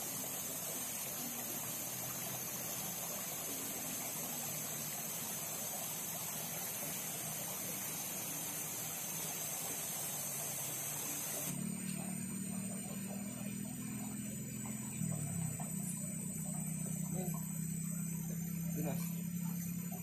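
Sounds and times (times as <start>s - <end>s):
high-pitched whine: 0.0s - 20.0s
river water running: 0.0s - 20.0s.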